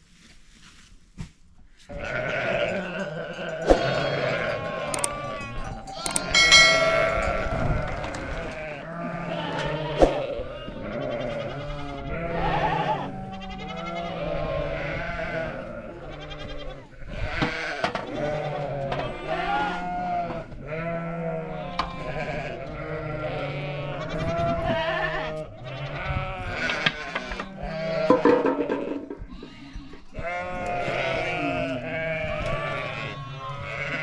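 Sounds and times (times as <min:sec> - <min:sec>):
sheep and goats bleating: 0:01.9 - 0:34.0.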